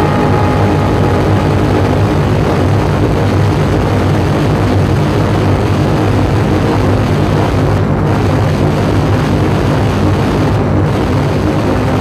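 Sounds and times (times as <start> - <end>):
electronic noise drone: 0.0 - 12.0.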